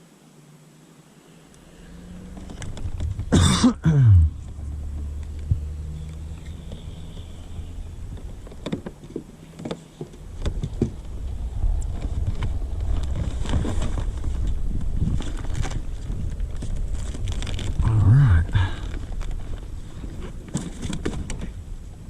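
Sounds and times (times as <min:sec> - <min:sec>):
low steady hum: 0:00.0 - 0:22.0
wind rumbling on microphone: 0:01.6 - 0:03.5, 0:04.1 - 0:22.0.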